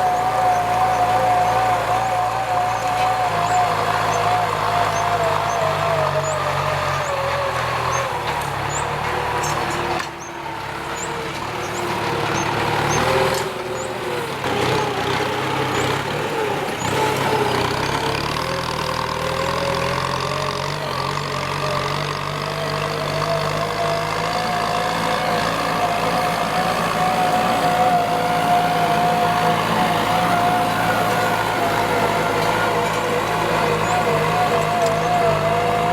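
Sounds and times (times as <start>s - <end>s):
tractor diesel engine under load: 0.0s - 35.9s.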